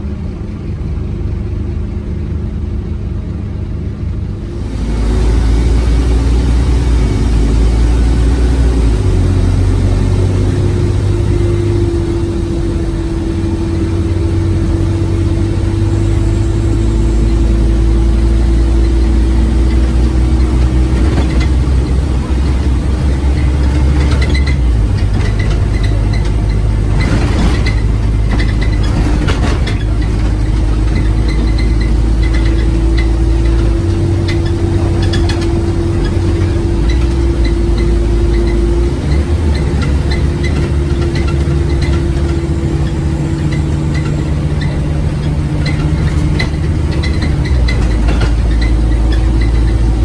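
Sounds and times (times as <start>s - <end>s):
bus engine rumbling: 0.0s - 50.0s.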